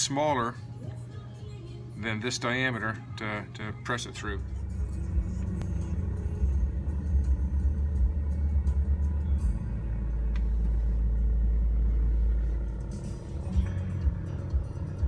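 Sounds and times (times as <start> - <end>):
vehicle cabin rumble: 2.8 - 15.0.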